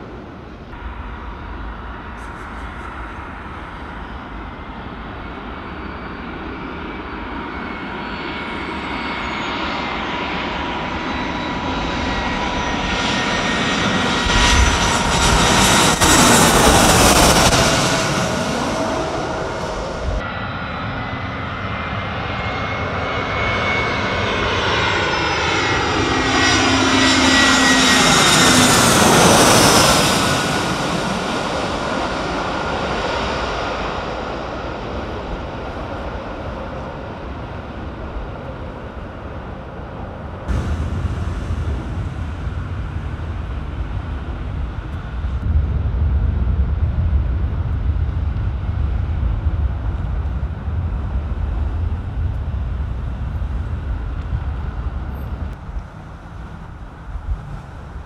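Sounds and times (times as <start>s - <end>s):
steady low rumble: 0.0s - 9.1s, 9.8s - 58.0s
jet airliner flying overhead: 0.0s - 58.0s.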